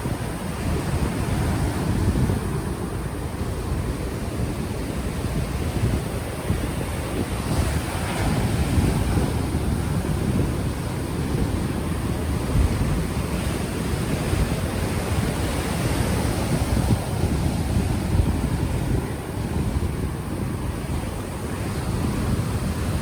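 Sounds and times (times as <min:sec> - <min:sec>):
ocean waves washing ashore: 0:00.0 - 0:23.0
wind buffeting microphone: 0:00.0 - 0:23.0.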